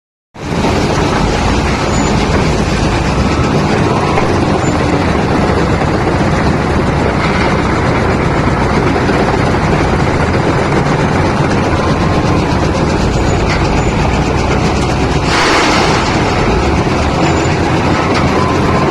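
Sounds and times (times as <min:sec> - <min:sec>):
diesel engine running: 0:00.4 - 0:18.9.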